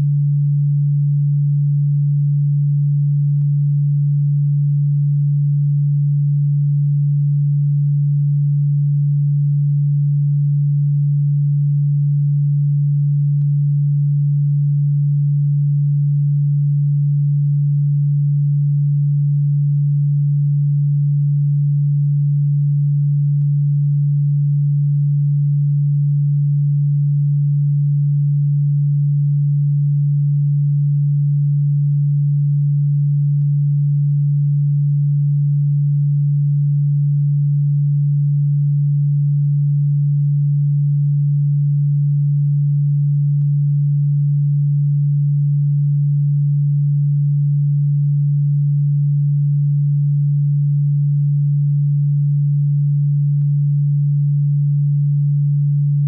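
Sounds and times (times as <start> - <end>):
low electronic sine tone: 0.0 - 56.0.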